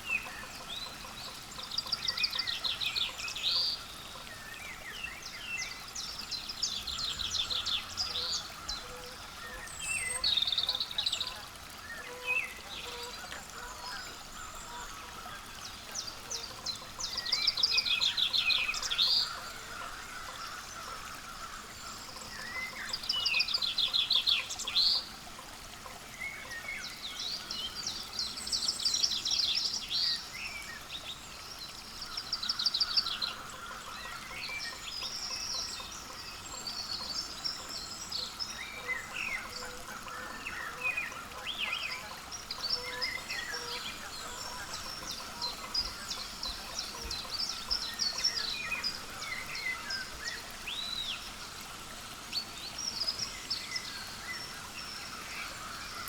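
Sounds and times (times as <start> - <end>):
small songbirds calling: 0.0 - 56.0.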